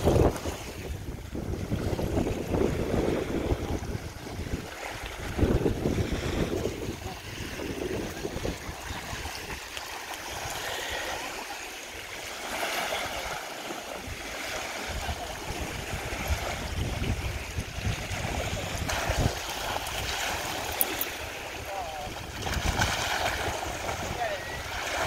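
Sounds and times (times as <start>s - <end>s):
wind rumbling on microphone: 0.0s - 10.8s, 14.0s - 25.0s
water lapping at shoreline: 0.0s - 25.0s.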